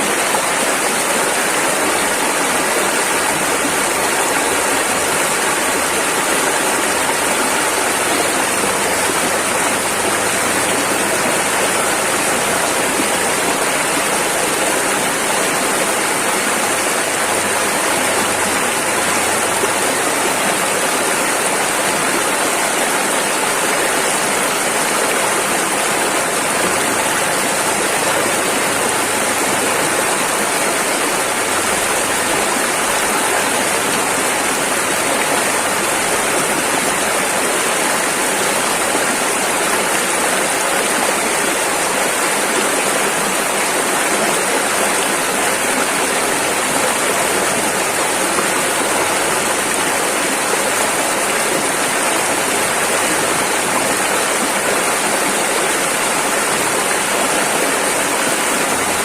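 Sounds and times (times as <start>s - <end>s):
river rushing over rapids: 0.0s - 59.0s.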